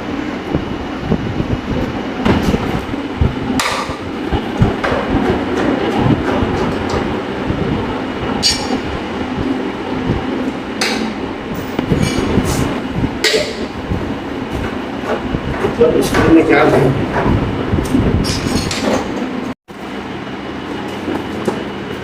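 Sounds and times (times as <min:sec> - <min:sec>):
air conditioner rattling and knocking: 0:00.0 - 0:19.6.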